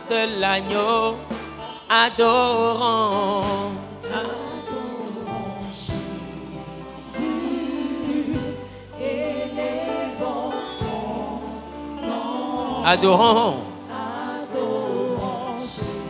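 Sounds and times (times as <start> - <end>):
choir singing gospel song: 0.0 - 16.0
sustained instrumental accompaniment: 0.0 - 16.0.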